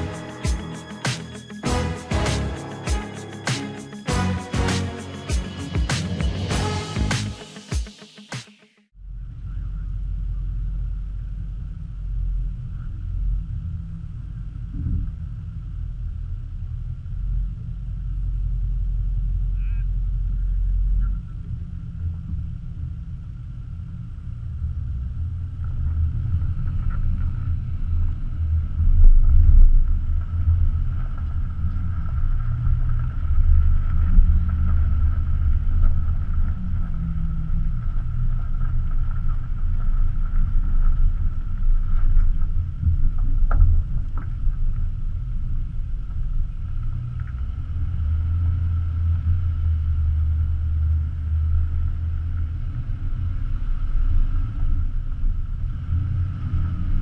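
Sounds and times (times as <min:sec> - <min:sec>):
faint steady whine: 0:09.0 - 0:57.0
vehicle driving on dirt track: 0:09.0 - 0:57.0
tyre and road noise: 0:09.1 - 0:57.0.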